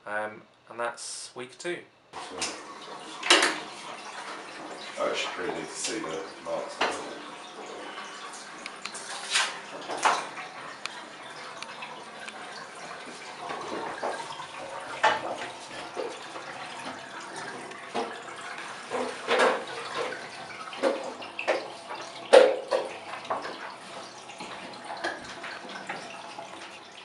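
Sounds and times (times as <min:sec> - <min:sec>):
water splashing in bathtub: 0:02.2 - 0:27.0.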